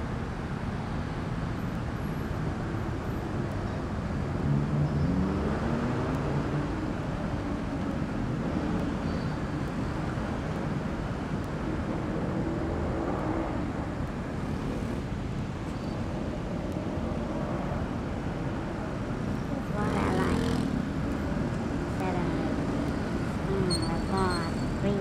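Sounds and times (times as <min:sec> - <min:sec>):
tyres on road: 0:00.0 - 0:25.0
vehicle engines passing: 0:01.0 - 0:25.0.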